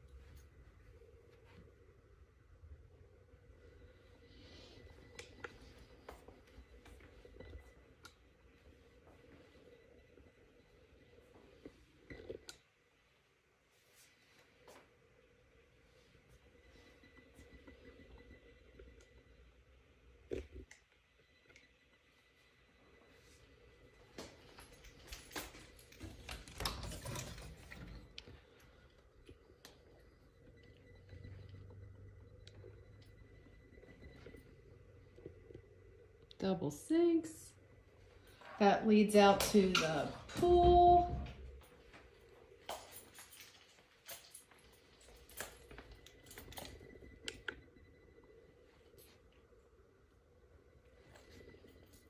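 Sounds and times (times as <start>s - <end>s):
low hum: 0.0s - 13.2s, 14.8s - 52.0s.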